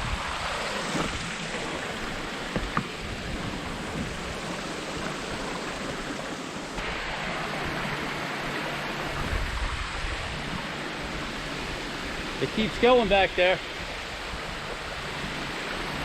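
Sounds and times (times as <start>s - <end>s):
water rushing over rock: 0.0s - 16.0s.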